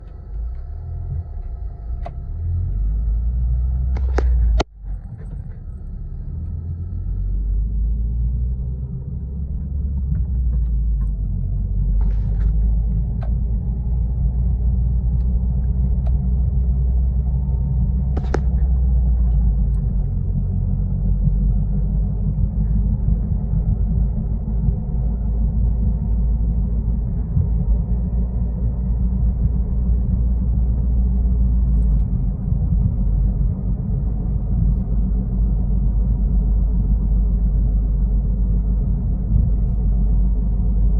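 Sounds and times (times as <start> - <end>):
car wheel bearing drone: 0.0 - 40.9.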